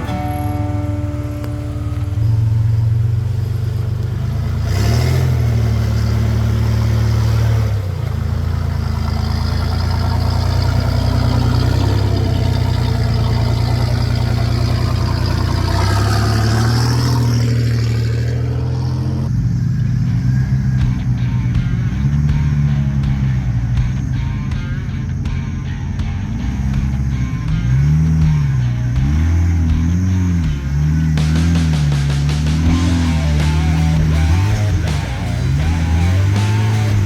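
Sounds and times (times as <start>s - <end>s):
off-road vehicle engine revving: 0.0s - 37.0s.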